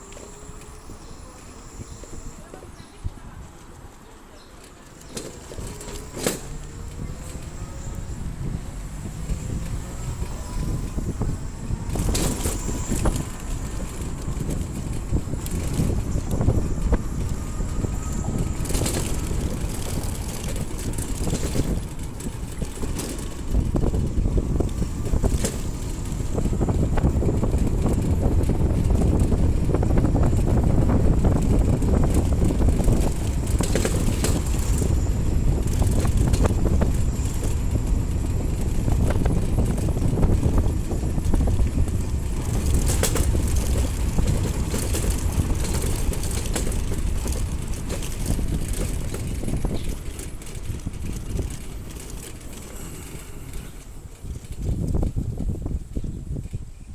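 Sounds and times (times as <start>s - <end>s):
vehicle low rumble: 0.0s - 56.9s
wind buffeting microphone: 0.0s - 56.9s.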